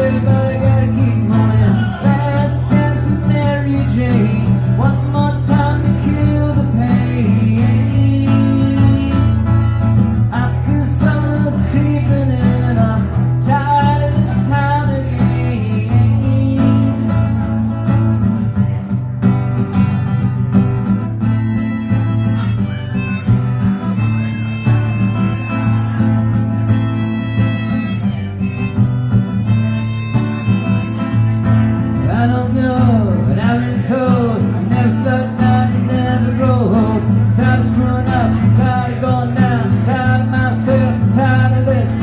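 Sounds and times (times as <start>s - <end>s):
man singing: 0.0s - 18.8s, 21.4s - 42.0s
strummed acoustic guitar: 0.0s - 42.0s.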